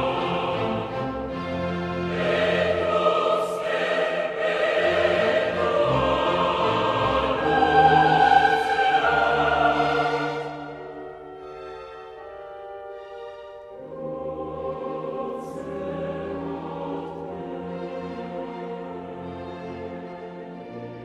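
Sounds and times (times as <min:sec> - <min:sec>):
choir singing held chords: 0:00.0 - 0:12.8, 0:13.7 - 0:20.8
orchestral accompaniment: 0:00.0 - 0:21.0.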